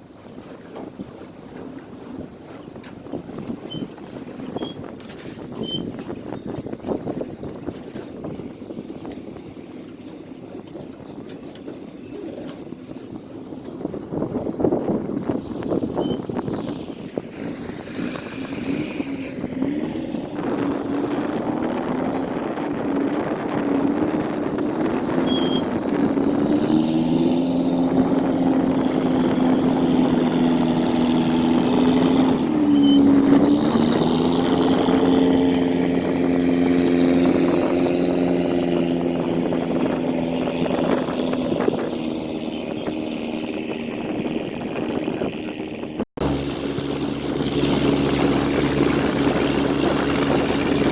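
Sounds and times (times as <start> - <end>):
motorboat engine running: 0.0 - 50.9
water rushing: 0.0 - 50.9
wind: 0.0 - 50.9.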